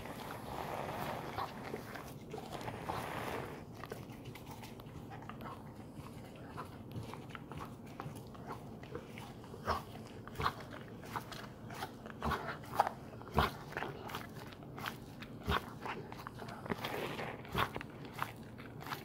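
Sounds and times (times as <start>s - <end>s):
dog chewing a tennis ball: 0.0s - 19.0s.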